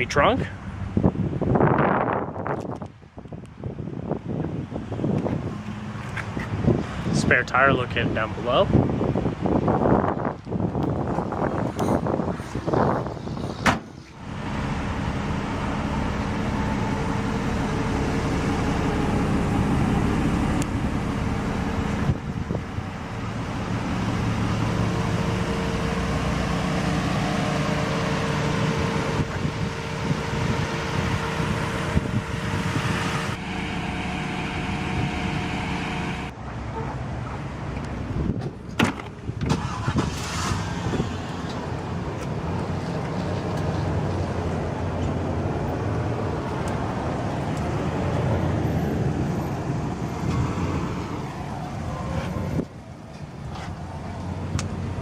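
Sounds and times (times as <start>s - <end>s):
motor vehicle running: 9.1s - 55.0s.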